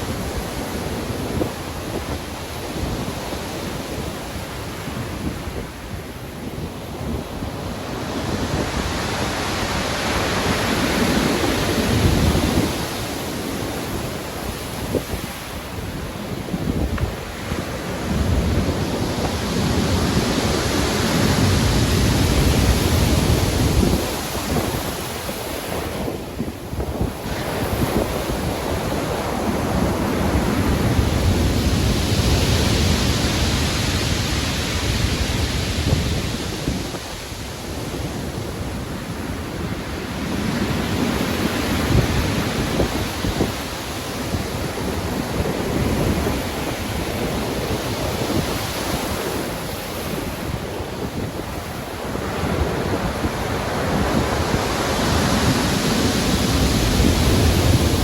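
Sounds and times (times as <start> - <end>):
heavy ocean surf breaking: 0.0 - 58.0.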